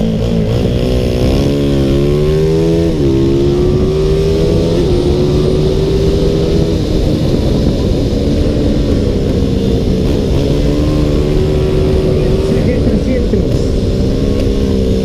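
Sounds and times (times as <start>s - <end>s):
motorcycle engine at high revs: 0.0s - 15.0s
wind noise on microphone: 1.0s - 15.0s.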